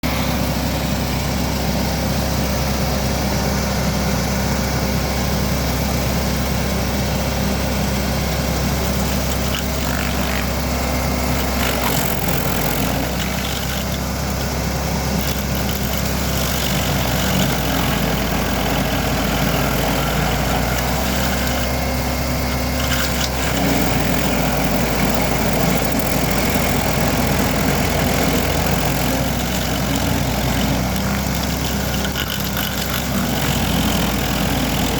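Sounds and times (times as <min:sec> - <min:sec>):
cutter wheel grinding stump: 0:00.0 - 0:34.9
stump grinder engine running: 0:00.0 - 0:34.9.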